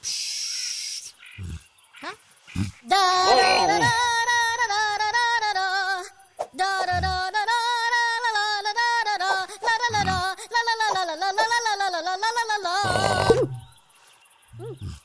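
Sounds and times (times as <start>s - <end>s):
cartoon trunk singing wordlessly: 1.4s - 13.7s.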